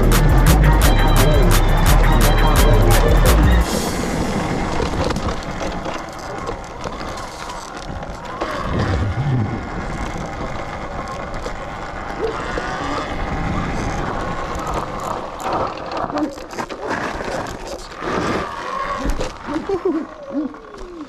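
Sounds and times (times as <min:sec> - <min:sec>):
wind and tyre noise: 0:03.4 - 0:21.0.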